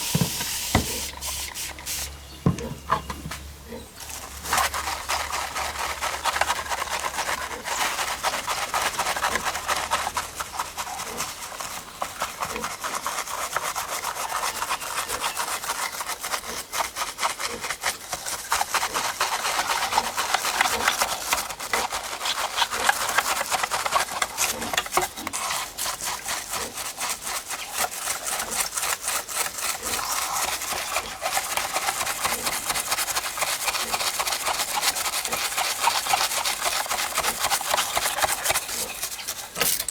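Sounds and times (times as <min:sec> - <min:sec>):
scrubbing a toy car: 0:04.1 - 0:39.9.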